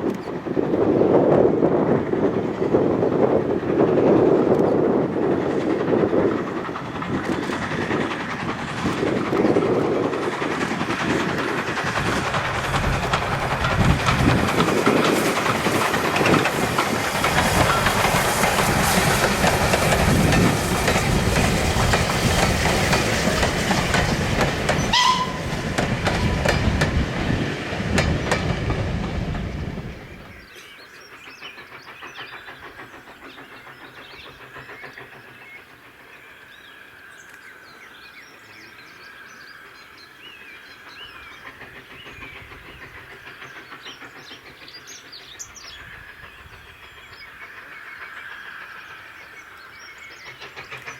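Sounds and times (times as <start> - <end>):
train wheels clattering over rails: 0.0 - 38.1, 38.7 - 50.9.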